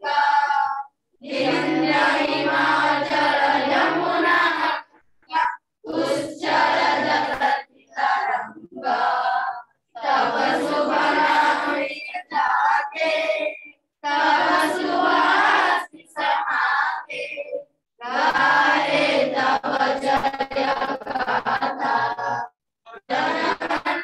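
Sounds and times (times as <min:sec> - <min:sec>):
children singing in chorus: 0:00.0 - 0:22.5, 0:23.1 - 0:24.0.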